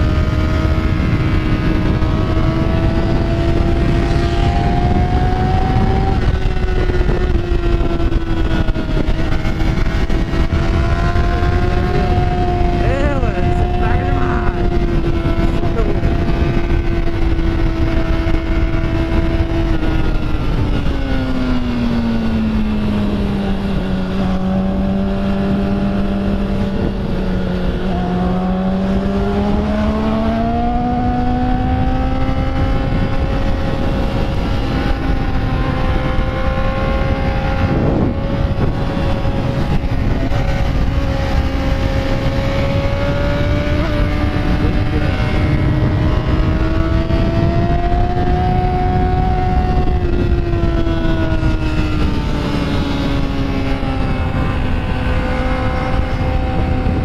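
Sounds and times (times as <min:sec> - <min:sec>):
motorcycle engine running: 0:00.0 - 0:57.0
wind rumble: 0:00.0 - 0:57.0.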